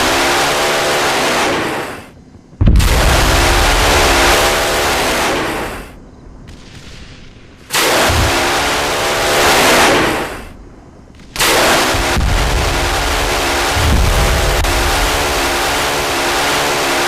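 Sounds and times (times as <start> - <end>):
rockets launching with swishing roar: 0.0 - 17.0.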